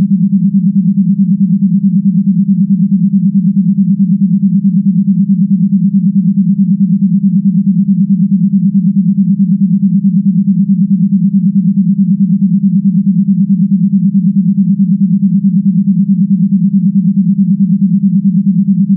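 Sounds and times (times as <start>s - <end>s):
pulsing electronic hum: 0.0s - 18.9s.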